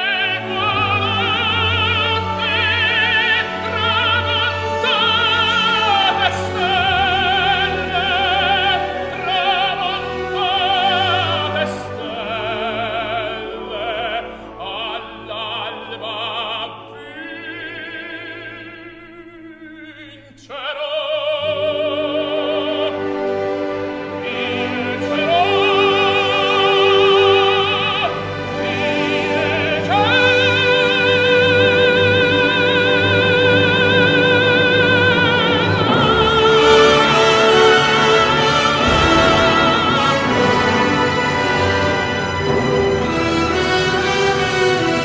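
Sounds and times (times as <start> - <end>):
orchestra playing: 0.0 - 19.1, 21.2 - 45.0
operatic voice singing: 0.0 - 45.0.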